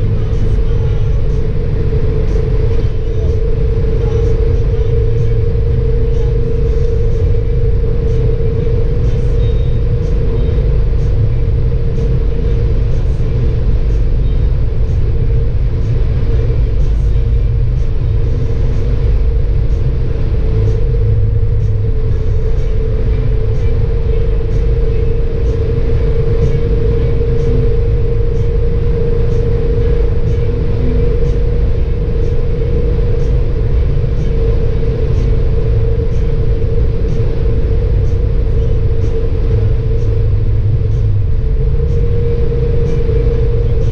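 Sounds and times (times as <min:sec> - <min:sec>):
car cabin road noise: 0:00.0 - 0:43.9
mid-pitched hum: 0:00.0 - 0:43.9.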